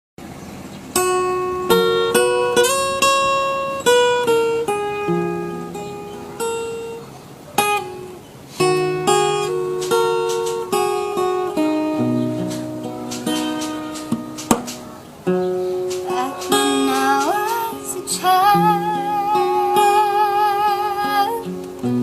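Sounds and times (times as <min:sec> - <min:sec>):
acoustic guitar strumming: 0:00.2 - 0:22.0.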